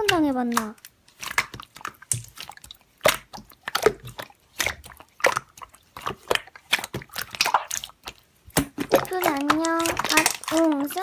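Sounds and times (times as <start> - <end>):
slime squished by hand: 0.0 - 11.0.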